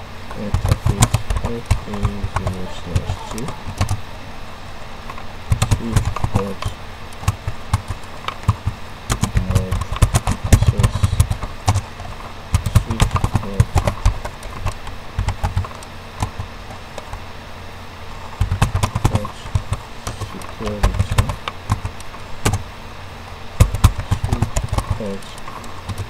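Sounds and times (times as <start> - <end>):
keyboard typing: 0.3 - 4.0, 5.1 - 17.2, 18.2 - 22.6, 23.6 - 26.0.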